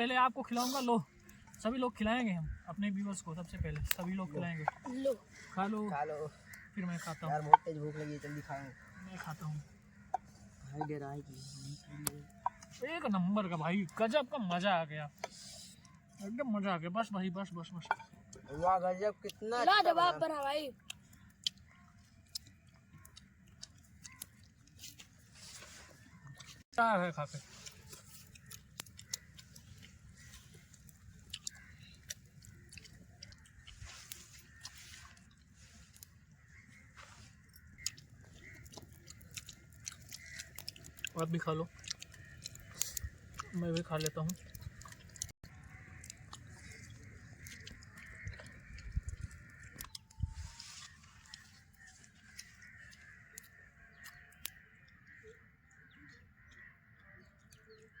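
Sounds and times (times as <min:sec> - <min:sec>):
close-up chewing: 0:00.4 - 0:14.6, 0:17.8 - 0:58.0.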